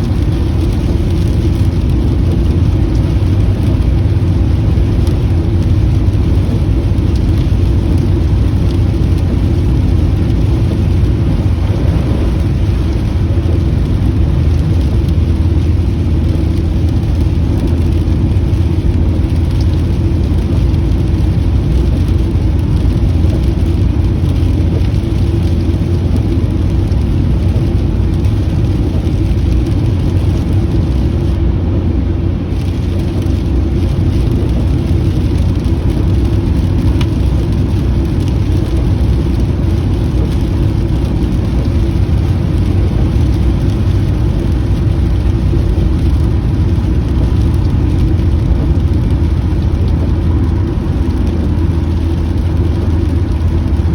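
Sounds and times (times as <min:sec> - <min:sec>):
rain falling on car: 0:00.0 - 0:53.9
road and engine drone in car: 0:00.0 - 0:53.9.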